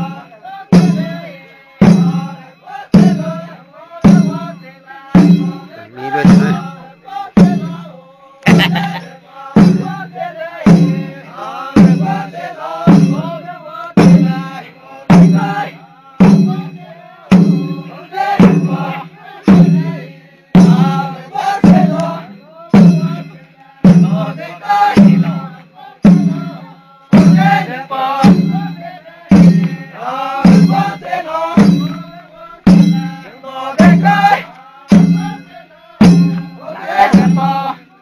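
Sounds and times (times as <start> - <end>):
drum beating slowly: 0.0 - 38.0
group of voices chanting: 0.0 - 38.0.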